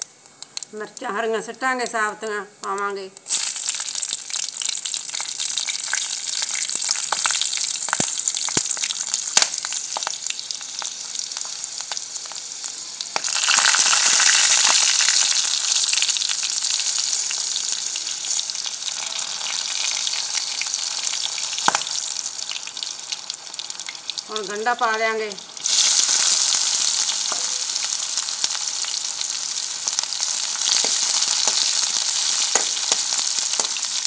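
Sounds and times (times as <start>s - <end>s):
chillies sizzling in hot oil: 0.0s - 34.0s.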